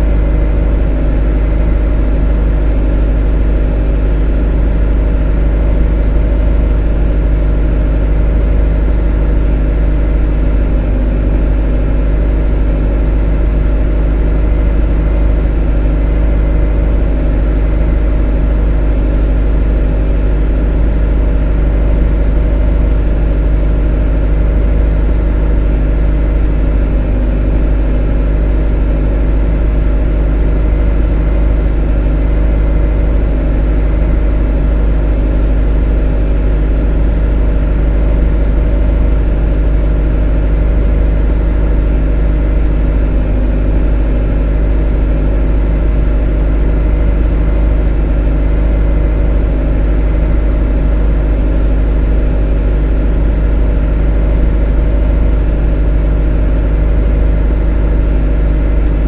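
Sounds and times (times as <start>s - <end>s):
motor droning steadily: 0.0s - 59.0s.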